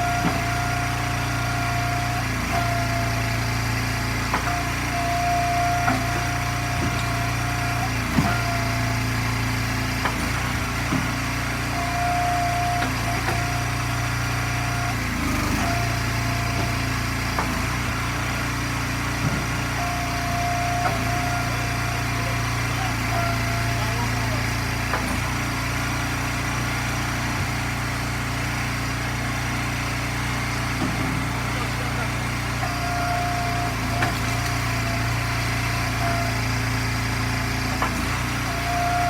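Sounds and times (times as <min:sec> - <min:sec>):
hydraulic ram whine: 0:00.0 - 0:39.0
log splitter engine running: 0:00.0 - 0:39.0.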